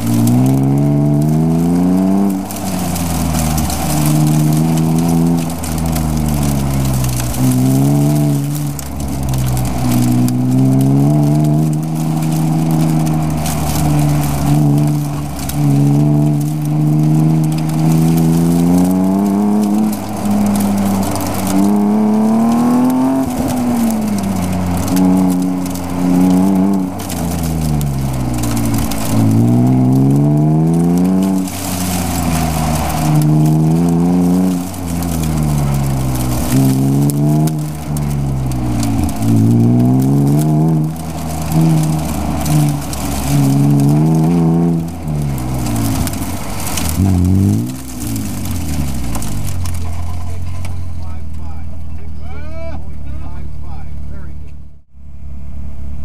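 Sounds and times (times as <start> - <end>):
car engine revving up and down: 0.0 - 56.0.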